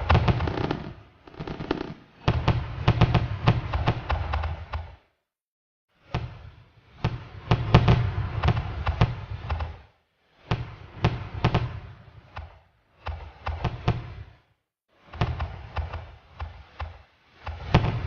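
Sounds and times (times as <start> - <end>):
fireworks bangs: 0.0 - 5.0, 6.1 - 9.8, 10.4 - 14.3, 15.1 - 18.0.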